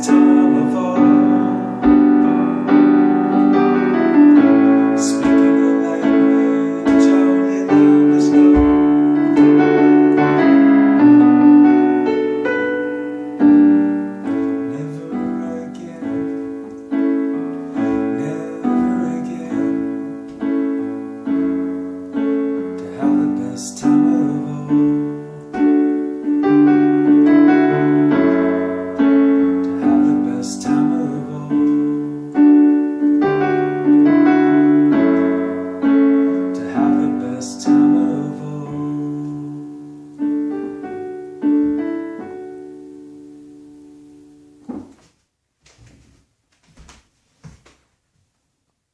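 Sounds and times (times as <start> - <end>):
slow piano chords: 0.0 - 45.1.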